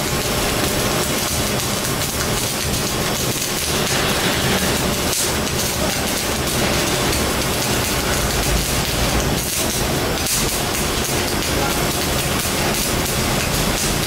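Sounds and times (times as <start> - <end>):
arc welding crackling hiss: 0.0 - 14.0.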